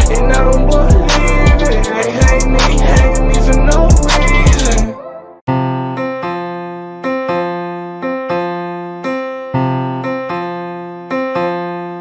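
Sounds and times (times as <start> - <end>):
electric piano chords: 0.0 - 12.0.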